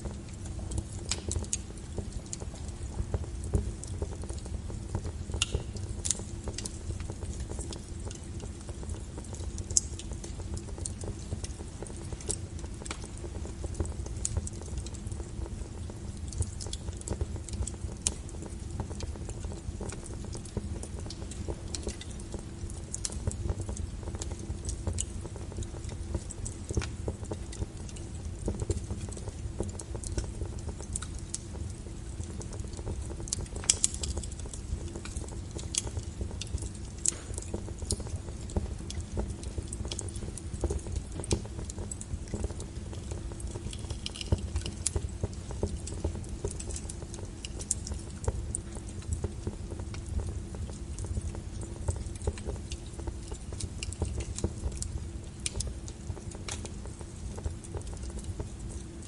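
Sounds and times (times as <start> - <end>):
fire crackling and popping: 0.0 - 59.0
low rumble of fire: 0.0 - 59.0.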